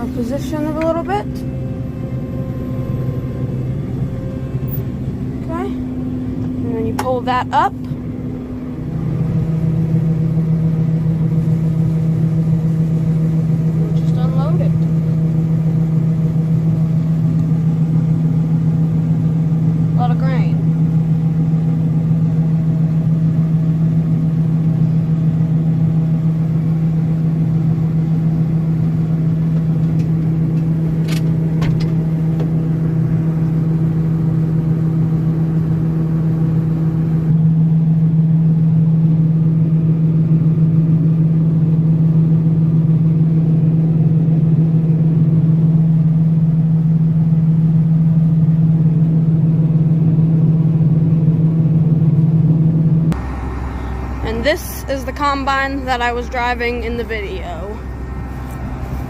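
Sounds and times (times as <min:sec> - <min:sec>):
combine diesel engine running: 0:00.0 - 0:59.0.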